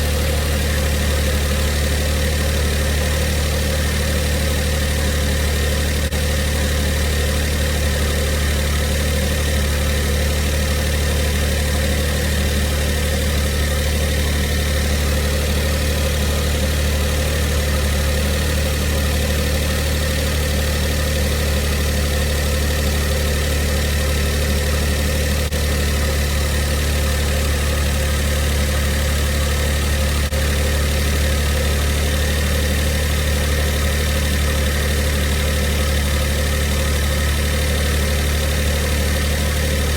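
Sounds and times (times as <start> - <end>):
car engine idling: 0.0 - 39.9
engine rattle: 0.0 - 39.9
whirring inside engine: 0.0 - 39.9.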